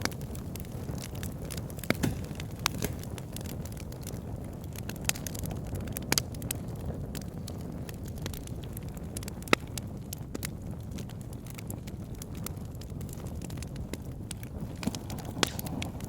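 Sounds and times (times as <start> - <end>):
campfire flames rushing: 0.0 - 16.0
wood crackling and popping: 0.0 - 16.0.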